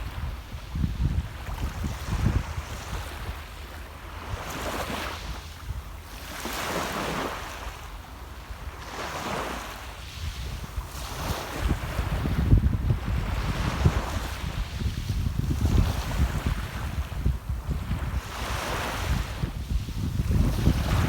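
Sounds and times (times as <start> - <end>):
small waves breaking on shore: 0.0 - 21.0
wind rumble on microphone: 0.0 - 21.0.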